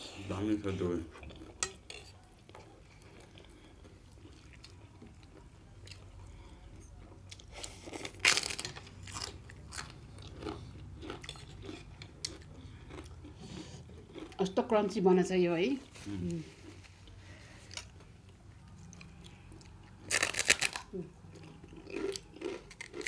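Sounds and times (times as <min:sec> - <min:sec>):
biting and chewing crunchy food: 0:01.2 - 0:14.8, 0:16.6 - 0:23.0.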